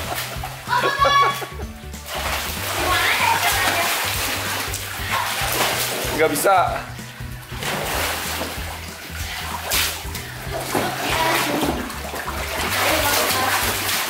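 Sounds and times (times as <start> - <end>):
background music with bass: 0.0 - 14.0
water splashing in pool: 0.0 - 14.0.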